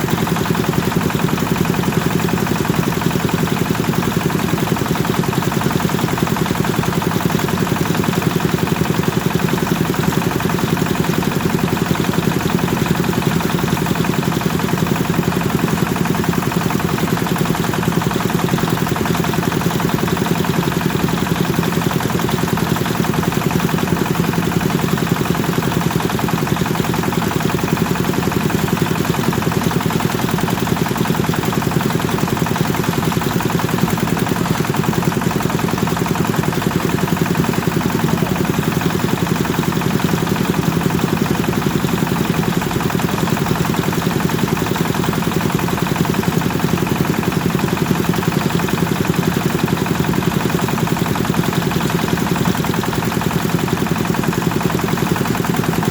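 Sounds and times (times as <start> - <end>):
engine chugging: 0.0 - 55.9.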